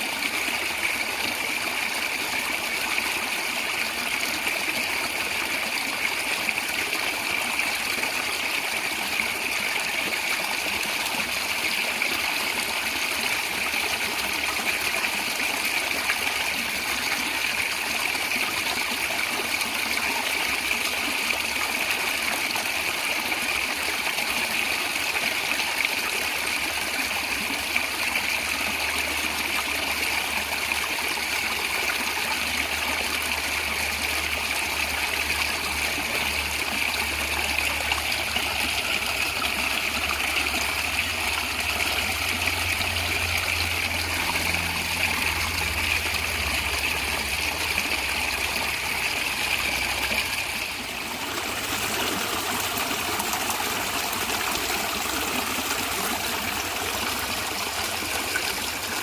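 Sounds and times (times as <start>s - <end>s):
stream gurgling and trickling: 0.0s - 59.0s.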